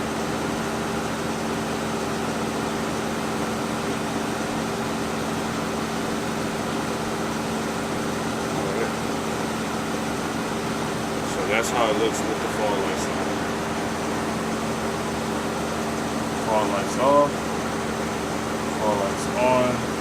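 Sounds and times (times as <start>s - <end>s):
car engine idling: 0.1s - 20.0s.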